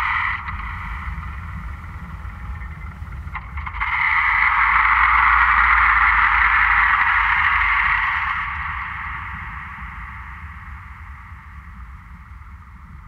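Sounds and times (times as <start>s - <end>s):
filtered hiss: 0.0s - 13.0s
steady low drone: 0.0s - 13.0s.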